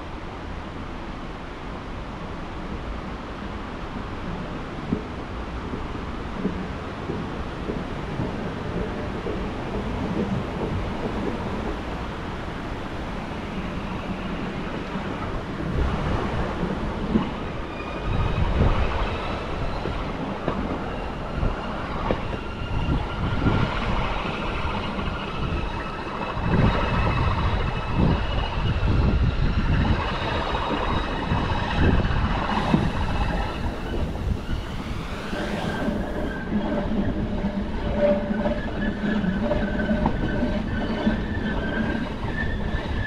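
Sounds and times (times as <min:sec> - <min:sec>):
train rolling rumble: 0:00.0 - 0:43.0.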